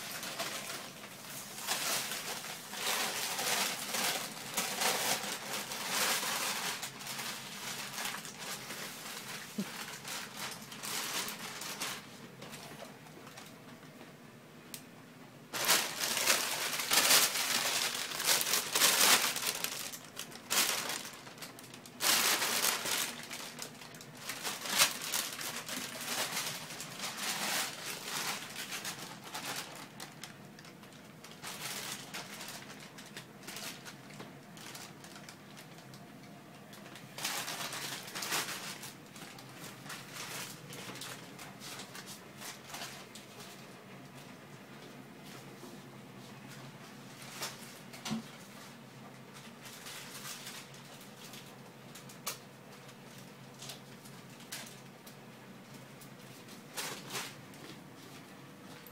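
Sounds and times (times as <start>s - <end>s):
plastic bag rustling: 0.0s - 13.6s, 15.5s - 45.6s, 46.2s - 58.9s.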